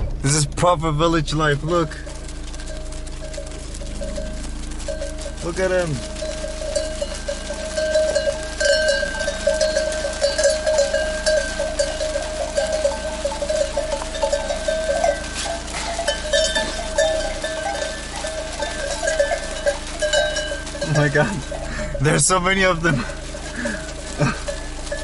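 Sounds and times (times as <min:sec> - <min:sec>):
steady ringing: 0:00.0 - 0:25.0
sheep bells clanking: 0:01.0 - 0:25.0.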